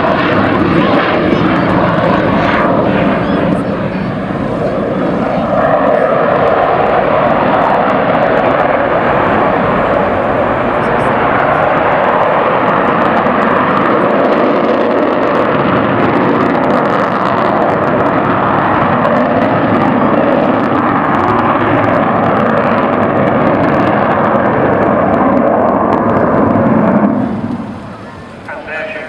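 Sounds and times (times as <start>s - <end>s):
jet roar of aircraft flypast: 0.0s - 29.0s.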